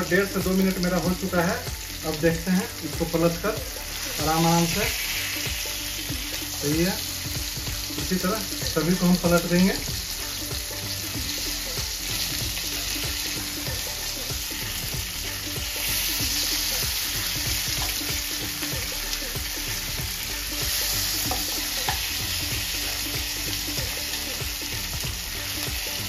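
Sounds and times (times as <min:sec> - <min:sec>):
fish sizzling in a frying pan: 0:00.0 - 0:26.0.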